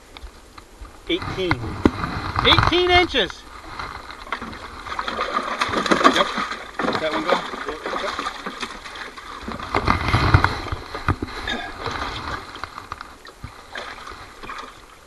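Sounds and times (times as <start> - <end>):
handling knocks and clicks in boat: 0.2 - 14.7.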